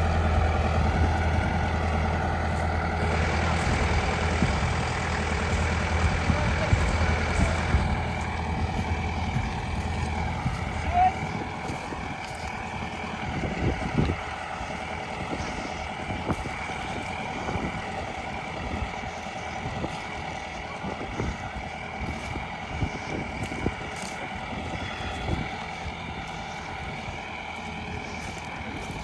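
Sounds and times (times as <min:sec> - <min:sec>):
harvesting machine whining: 0:00.0 - 0:29.0.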